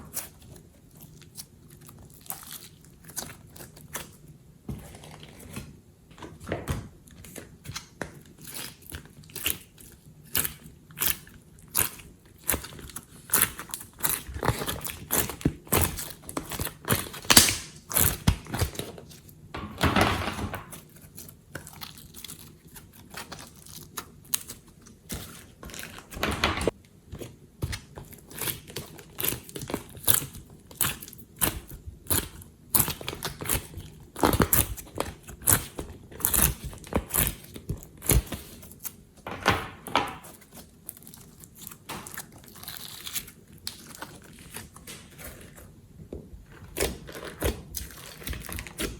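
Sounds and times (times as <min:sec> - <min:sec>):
slime squelch: 0:00.0 - 0:05.9, 0:06.9 - 0:19.5, 0:20.6 - 0:48.9.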